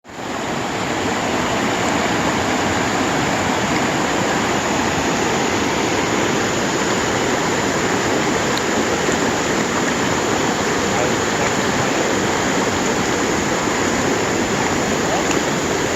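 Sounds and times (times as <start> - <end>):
stream water rushing: 0.0 - 15.9.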